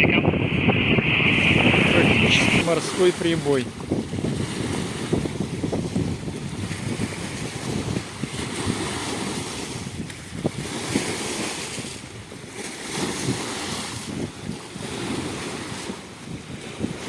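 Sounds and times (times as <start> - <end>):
waves washing onto shore: 0.0 - 17.0
wind buffeting microphone: 0.0 - 17.0.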